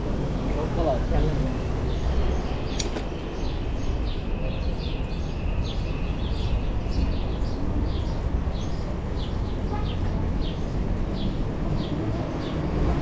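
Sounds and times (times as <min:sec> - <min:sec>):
small birds chirping: 0:00.6 - 0:13.0.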